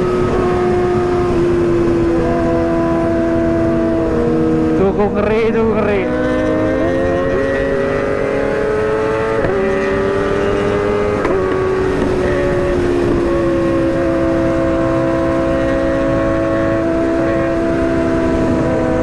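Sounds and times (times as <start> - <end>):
low wind rumble: 0.0 - 19.0
motorcycle engine at high revs: 0.0 - 19.0.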